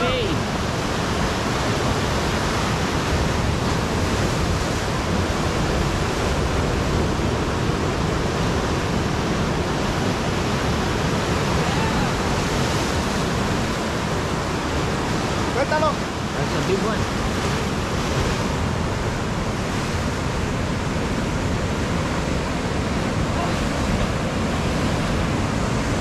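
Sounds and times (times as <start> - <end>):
surf breaking against rocks: 0.0 - 26.0.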